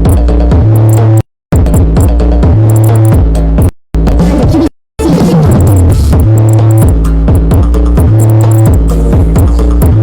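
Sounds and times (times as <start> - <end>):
drum machine beat: 0.0 - 10.0
electronic dance music: 0.0 - 10.0
heavy bass line: 0.0 - 10.0.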